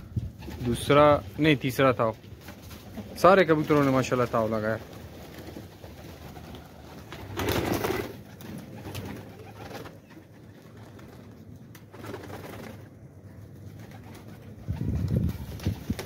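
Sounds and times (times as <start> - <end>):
wing flapping: 0.1 - 1.3, 2.2 - 16.0.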